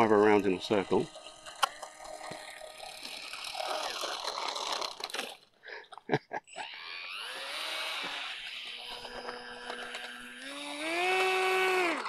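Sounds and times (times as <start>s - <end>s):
small electric motor and propeller: 0.0s - 5.5s, 6.5s - 12.0s.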